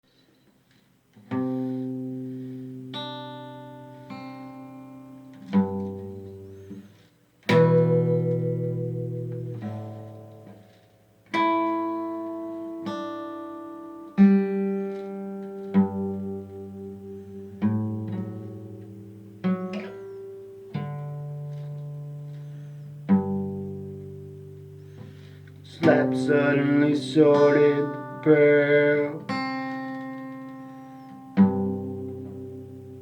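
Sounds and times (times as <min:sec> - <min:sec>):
guitar chords ringing: 0:01.3 - 0:33.0.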